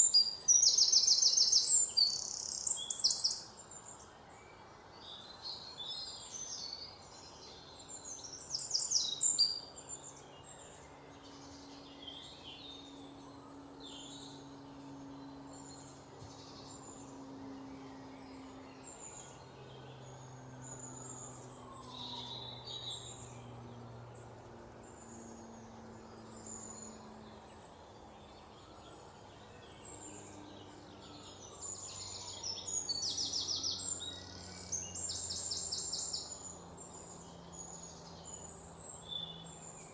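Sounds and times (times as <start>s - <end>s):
faint low drone: 0.0s - 39.9s
songbirds chirping and trilling: 0.0s - 39.9s.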